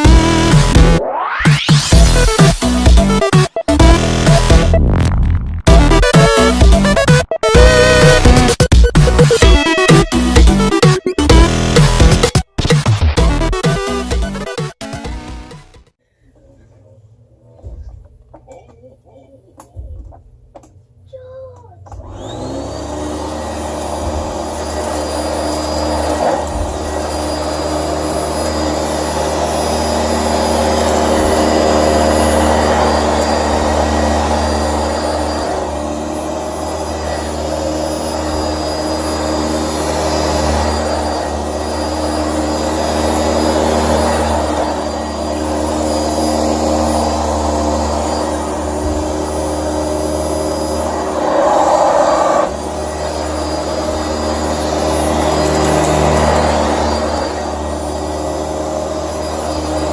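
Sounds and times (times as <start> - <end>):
vacuum cleaner running: 0.0 - 4.8, 5.7 - 12.4, 21.8 - 59.9.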